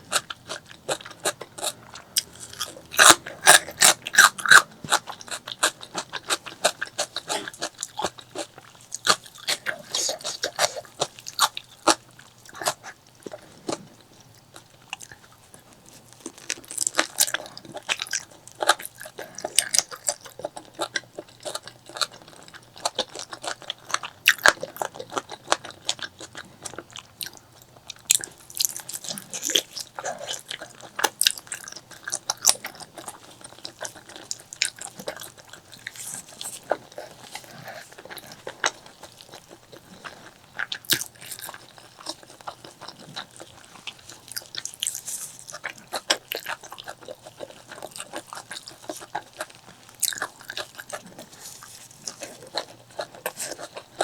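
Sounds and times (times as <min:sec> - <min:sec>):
person chewing food closely: 0:00.0 - 0:54.0.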